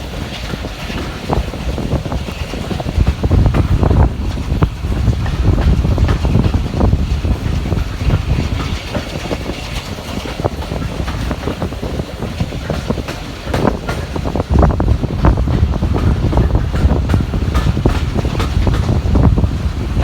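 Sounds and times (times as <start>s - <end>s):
railway carriage rumble: 0.0s - 20.0s
wheels clacking over rail joints: 0.0s - 20.0s.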